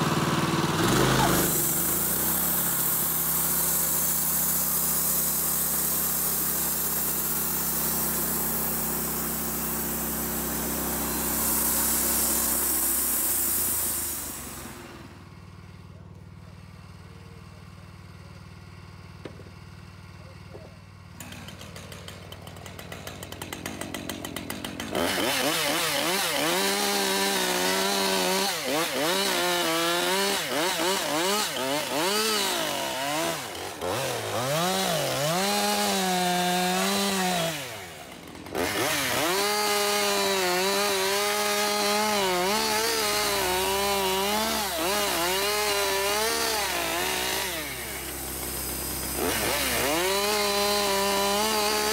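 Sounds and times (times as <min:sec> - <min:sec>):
chainsaw cutting wood: 0:00.0 - 0:15.4, 0:20.5 - 0:51.9
chainsaw idling: 0:00.0 - 0:51.9.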